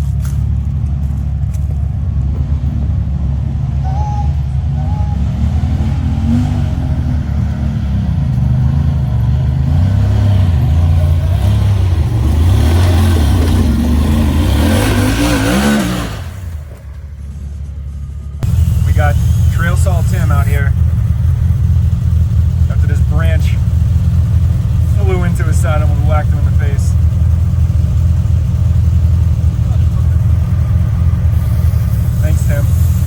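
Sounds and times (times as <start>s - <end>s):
utility vehicle engine revving: 0.0s - 33.0s.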